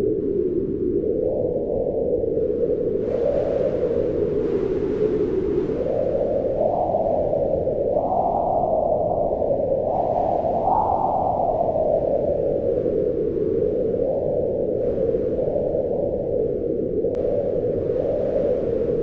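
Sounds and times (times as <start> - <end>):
strong wind howling: 0.0 - 19.0.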